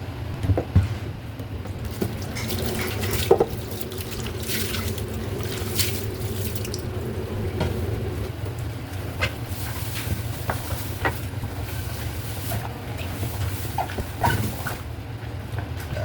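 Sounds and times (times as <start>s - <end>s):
wet sloshing and squelching by hand: 1.7s - 15.0s.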